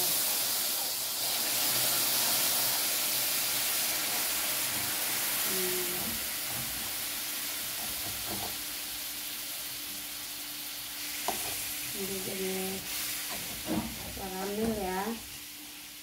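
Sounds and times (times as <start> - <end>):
caramel sizzling in pan: 0.0 - 16.0.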